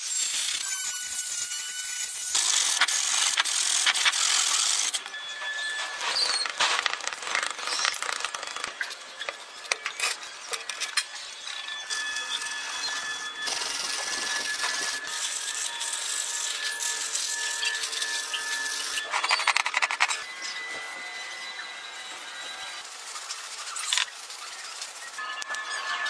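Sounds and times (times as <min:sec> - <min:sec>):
hand tools scraping on plastic and steel: 0:02.3 - 0:20.8, 0:22.1 - 0:25.7.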